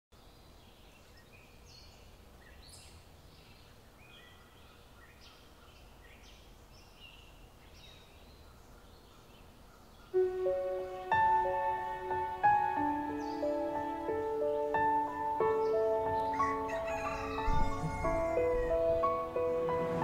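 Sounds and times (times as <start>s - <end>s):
faint birds chirping: 0.1s - 20.0s.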